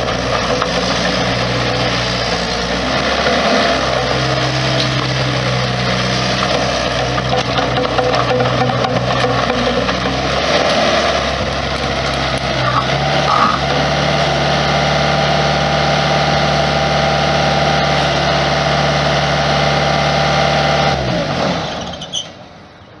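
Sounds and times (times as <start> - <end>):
engine winding down: 0.0 - 22.2
diesel engine running: 0.0 - 23.0.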